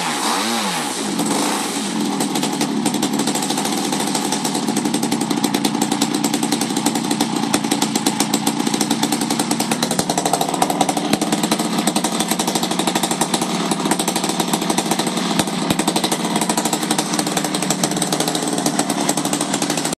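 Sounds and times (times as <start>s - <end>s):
model aeroplane engine running: 1.0s - 20.0s.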